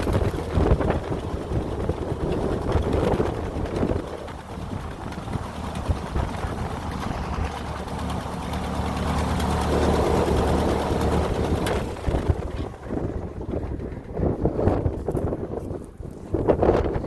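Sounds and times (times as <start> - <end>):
engine low hum: 0.0 - 17.0
rough outdoor noise: 0.0 - 17.0.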